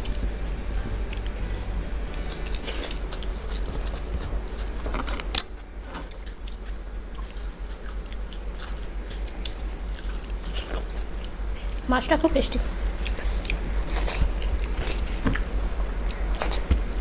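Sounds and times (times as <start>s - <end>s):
people chewing: 0.0s - 17.0s
steady low hum: 0.0s - 17.0s.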